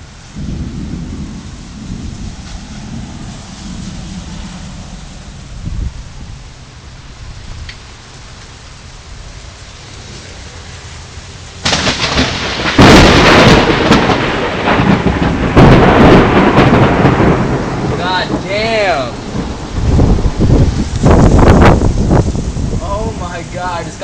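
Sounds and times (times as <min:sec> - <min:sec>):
thunder rumbling: 0:00.0 - 0:07.8, 0:08.8 - 0:24.0
steady rain hiss: 0:00.0 - 0:24.0.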